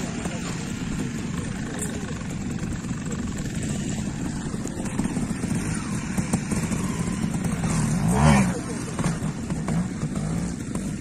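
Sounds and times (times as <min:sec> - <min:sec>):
motorcycle engine thumping: 0:00.0 - 0:11.0.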